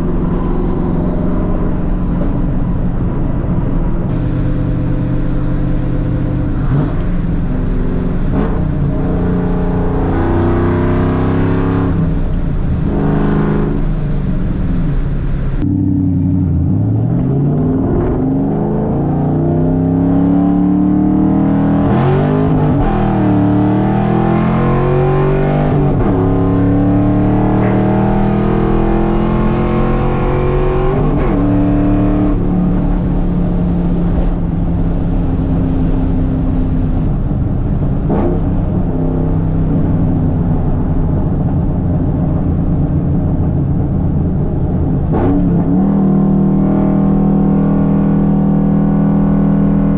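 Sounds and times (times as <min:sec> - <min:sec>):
loud unmuffled car engine revving: 0:00.0 - 0:49.9.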